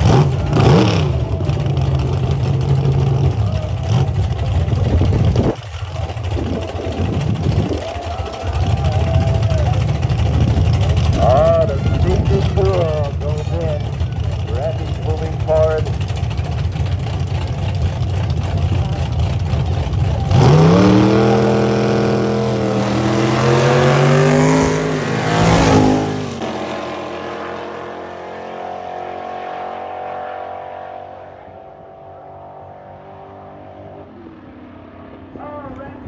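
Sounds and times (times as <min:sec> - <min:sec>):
drag racing car accelerating: 0:00.0 - 0:36.0.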